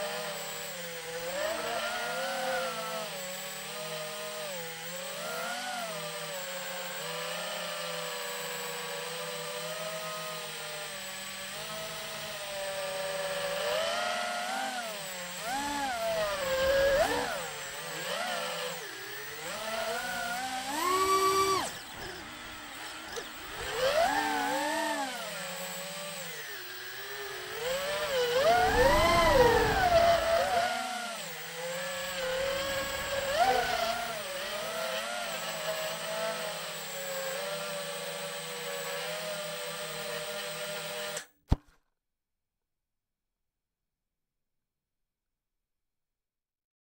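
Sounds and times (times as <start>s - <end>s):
drone motors whining: 0.0s - 41.3s.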